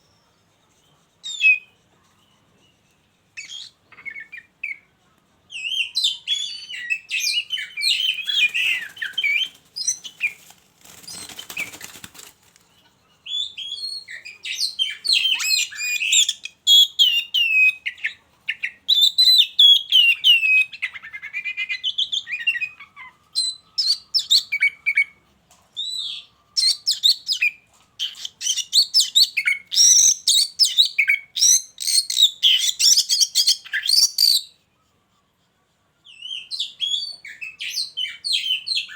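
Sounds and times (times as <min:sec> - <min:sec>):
birds singing whistled phrases: 0:01.2 - 0:01.8, 0:03.4 - 0:04.9, 0:05.5 - 0:12.1, 0:13.2 - 0:25.2, 0:25.8 - 0:34.8, 0:36.1 - 0:38.9.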